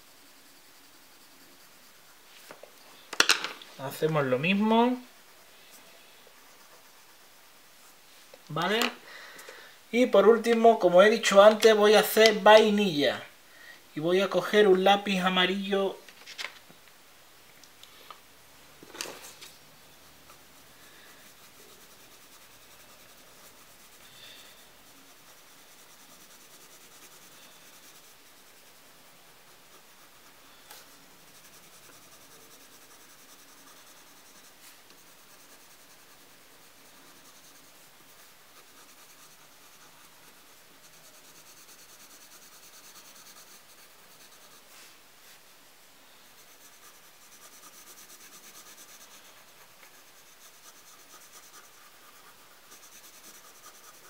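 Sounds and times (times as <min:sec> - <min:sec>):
pencil scratching on paper: 0:00.0 - 0:02.6, 0:03.8 - 0:08.0, 0:10.0 - 0:12.9, 0:18.9 - 0:54.0.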